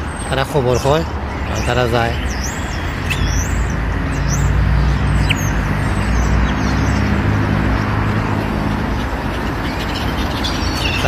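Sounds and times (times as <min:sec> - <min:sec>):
road noise: 0:00.0 - 0:11.0
small birds chirping: 0:00.0 - 0:11.0.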